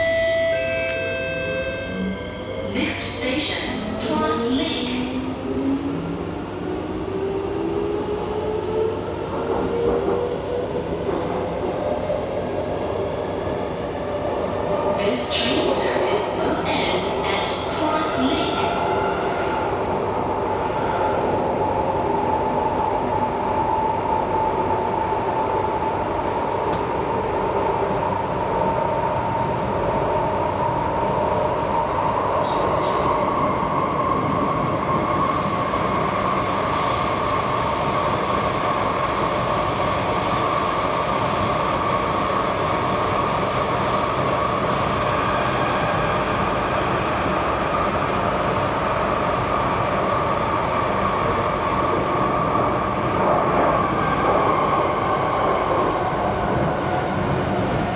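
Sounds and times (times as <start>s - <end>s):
high train whine: 0.0s - 57.9s
metro train rolling noise: 0.0s - 57.9s.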